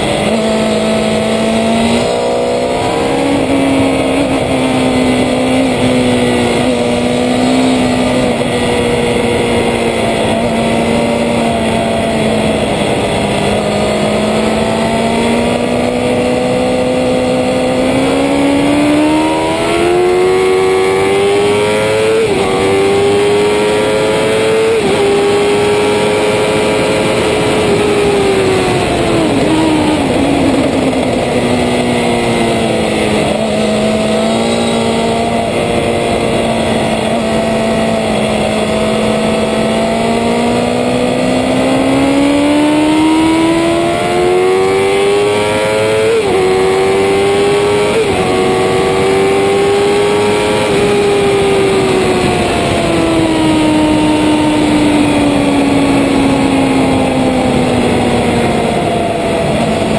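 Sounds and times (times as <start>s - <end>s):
motorcycle engine racing: 0.0s - 59.9s
motorcycle gear changes: 0.0s - 59.9s.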